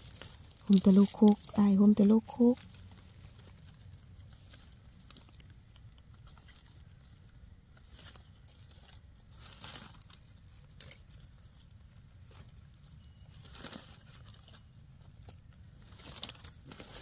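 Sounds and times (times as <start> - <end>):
leaf litter rustling and crackling: 0.0 - 17.0.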